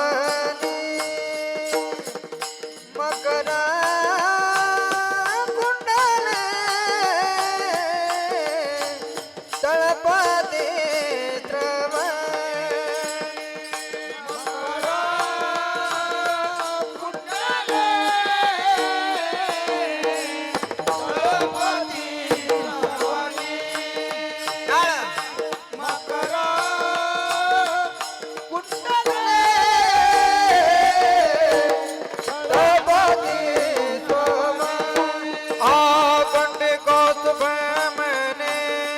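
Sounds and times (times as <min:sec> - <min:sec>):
tabla strokes: 0:00.0 - 0:38.9.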